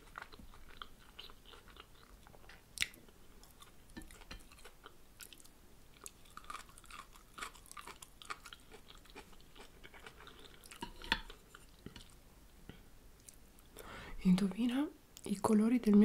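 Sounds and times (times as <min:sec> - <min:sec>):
close chewing with mouth clicks: 0:00.0 - 0:13.4.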